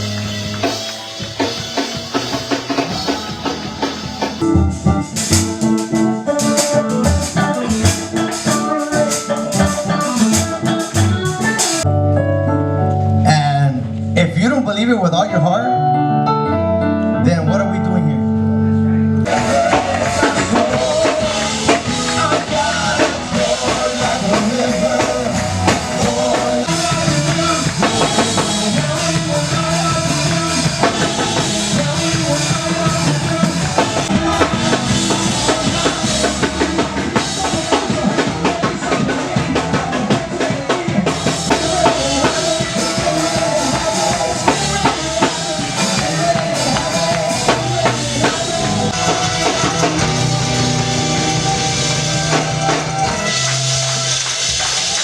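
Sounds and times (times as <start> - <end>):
drum kit beat: 0.0 - 11.8, 19.3 - 55.0
full-band music: 0.0 - 55.0.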